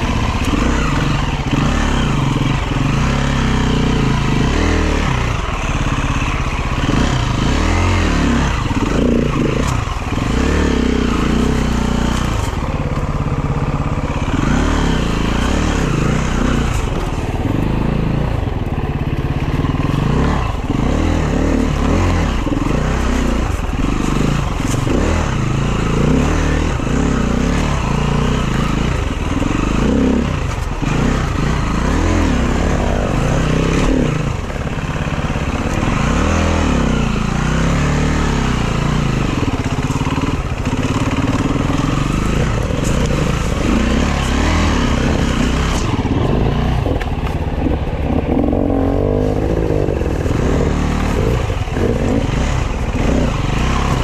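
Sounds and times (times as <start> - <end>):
clatter: 0.0 - 54.0
dirt bike engine revving: 0.0 - 54.0.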